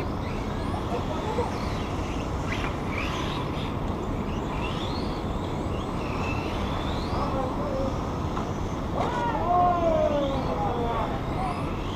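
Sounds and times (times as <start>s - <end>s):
electric toy car motors whining: 0.0s - 11.9s.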